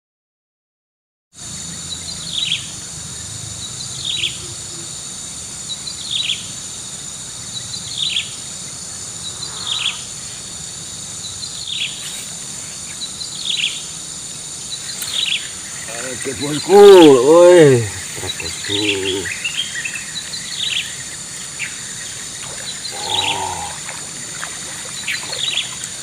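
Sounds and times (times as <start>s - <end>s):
insects chorus: 1.4s - 26.0s.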